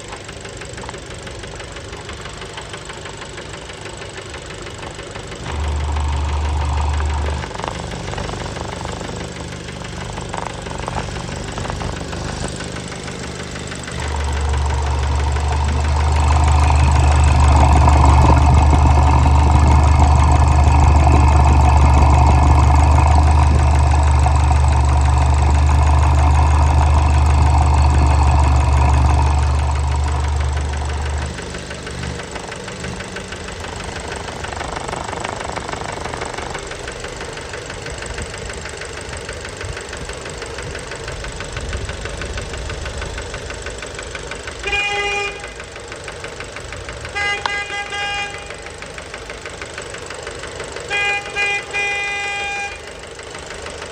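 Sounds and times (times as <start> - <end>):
car engine knocking: 0.0 - 53.9.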